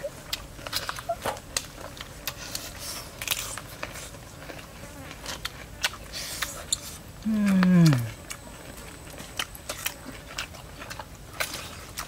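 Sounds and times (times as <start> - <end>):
biting and chewing ribs: 0.0 - 12.0.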